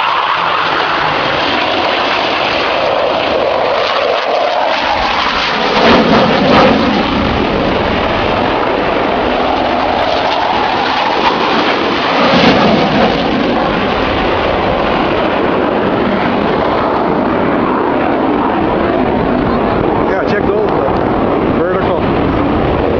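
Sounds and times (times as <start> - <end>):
jets flying past: 0.0 - 22.9.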